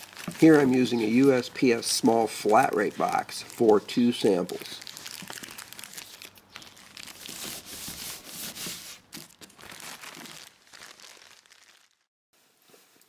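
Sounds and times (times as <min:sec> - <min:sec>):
plastic bags crinkling: 0:00.0 - 0:12.1.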